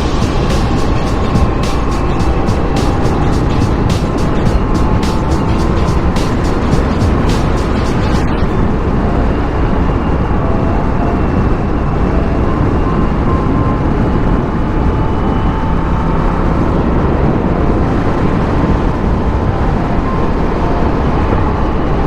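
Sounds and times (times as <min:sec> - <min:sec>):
wind rush on microphone: 0:00.0 - 0:22.0.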